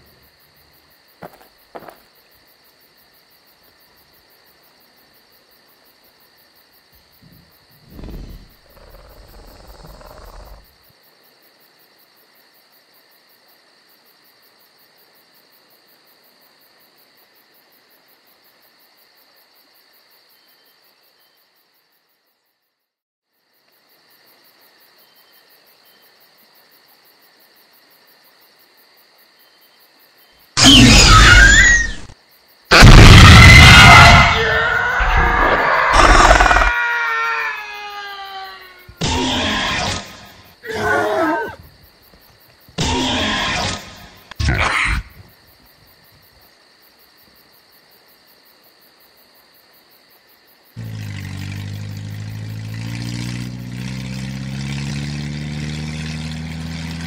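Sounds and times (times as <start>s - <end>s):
crickets chirping: 0.0s - 52.6s.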